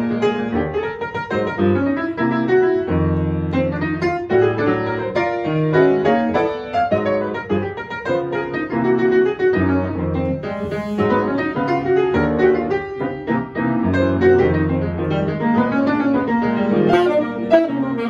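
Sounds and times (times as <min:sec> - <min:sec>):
grand piano playing: 0:00.0 - 0:18.0.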